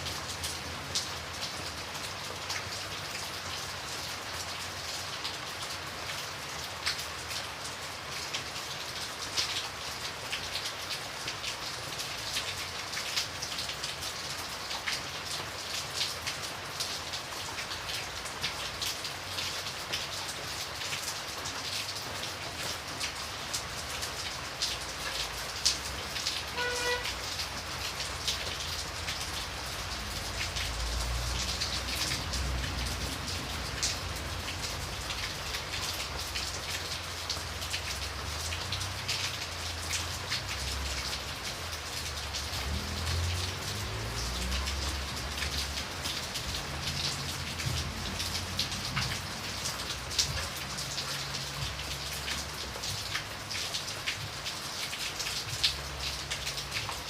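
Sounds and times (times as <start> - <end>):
rain drops ticking on a surface: 0.0 - 57.0.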